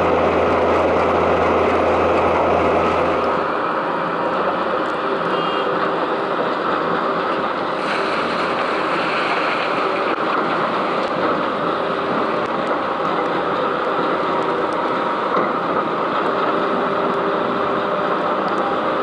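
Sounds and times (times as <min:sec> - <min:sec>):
heavy machinery din: 0:00.0 - 0:19.0.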